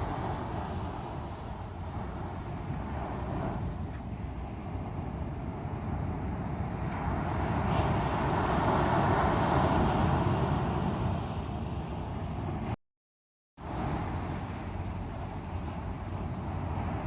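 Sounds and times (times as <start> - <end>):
sea waves on a shore: 0.0 - 12.8, 13.6 - 17.0.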